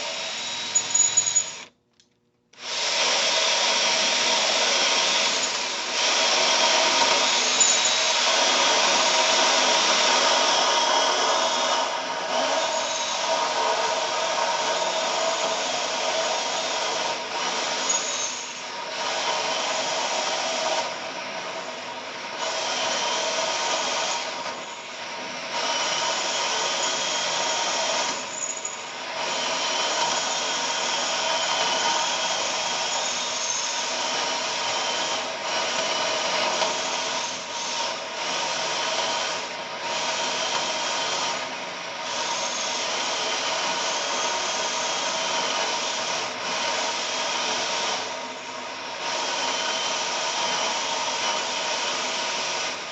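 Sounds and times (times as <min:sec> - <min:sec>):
power drill grinding into steel: 0:00.0 - 0:01.8, 0:02.6 - 0:52.9.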